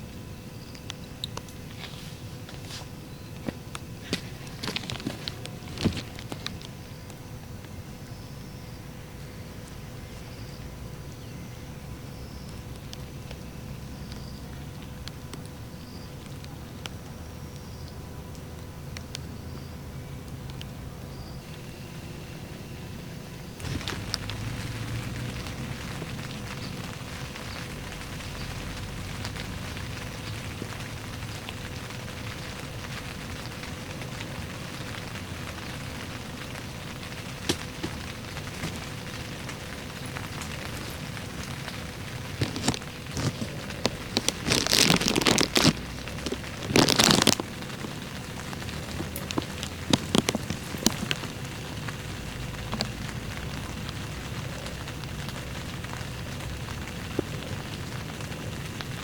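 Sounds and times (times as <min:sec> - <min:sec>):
sharp crackling and rustling: 0:00.1 - 0:11.4, 0:21.3 - 0:59.0
rain falling: 0:00.8 - 0:11.1, 0:20.0 - 0:59.0.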